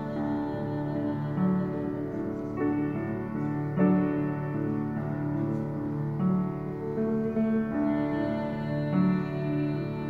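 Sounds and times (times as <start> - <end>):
piano playing slow chords: 0.0 - 10.0.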